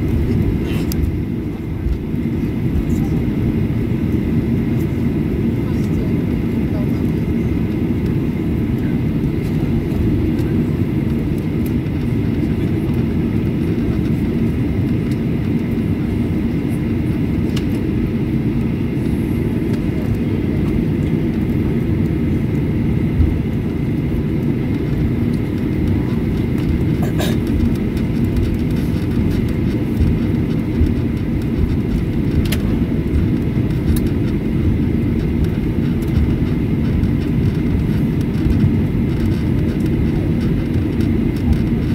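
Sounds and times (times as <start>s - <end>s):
jet engines rumbling: 0.0s - 41.9s.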